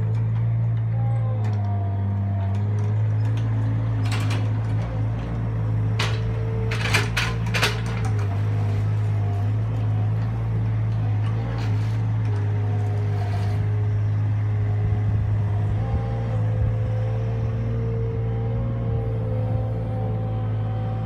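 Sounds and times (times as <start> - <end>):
loader engine running with whine: 0.0 - 21.0.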